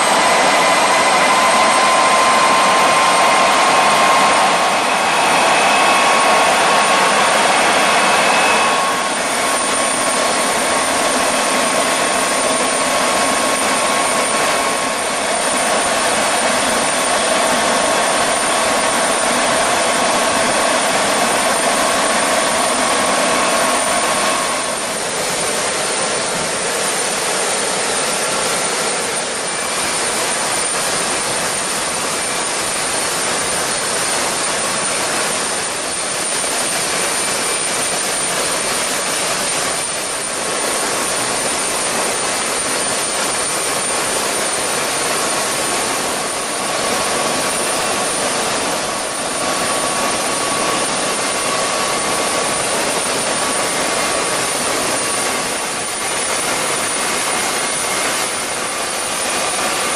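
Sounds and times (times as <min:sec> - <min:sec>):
jet engine air rush: 0:00.0 - 0:59.9
jet engine whine: 0:00.0 - 0:59.9.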